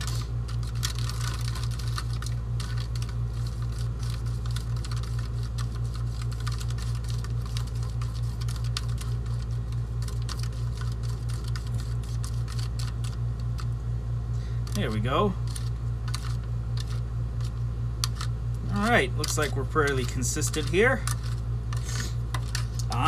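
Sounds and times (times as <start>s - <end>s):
plastic spoon scraping plastic bowl: 0.0s - 13.6s, 15.4s - 23.0s
low hum: 0.0s - 23.0s.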